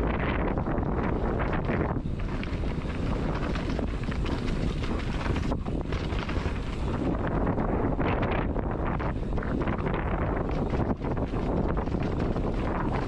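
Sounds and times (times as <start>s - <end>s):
bike clattering over rocky trail: 0.0s - 13.0s
wind buffeting microphone: 0.0s - 13.0s.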